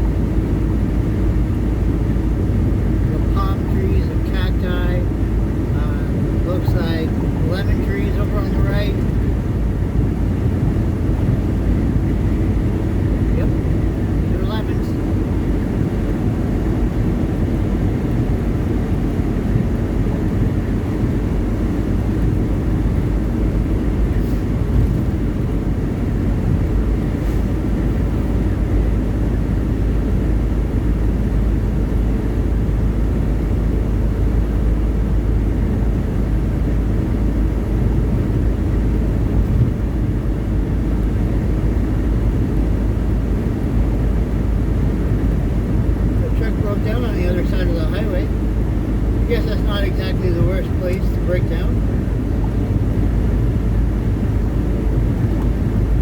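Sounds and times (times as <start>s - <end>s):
road noise: 0.0s - 56.0s
truck engine droning: 0.0s - 56.0s.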